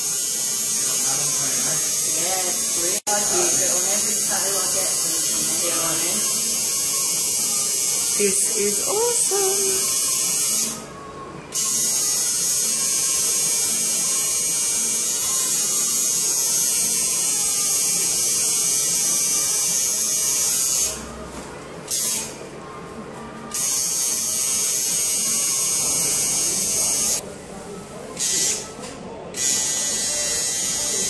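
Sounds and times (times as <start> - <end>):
handheld electric device buzzing: 0.0 - 10.8, 11.5 - 21.0, 23.5 - 27.2, 29.4 - 31.0.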